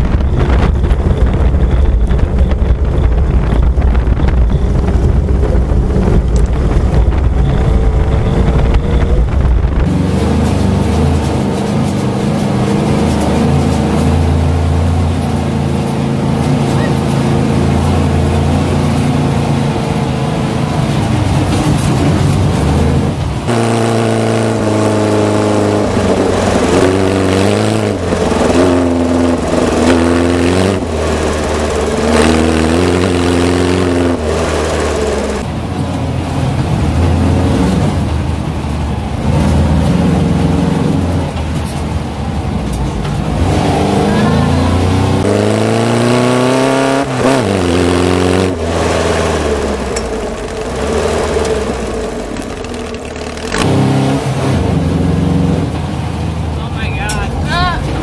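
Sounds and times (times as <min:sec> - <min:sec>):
car engine revving: 0:00.0 - 0:58.0
road noise: 0:00.0 - 0:58.0
wind: 0:00.0 - 0:58.0.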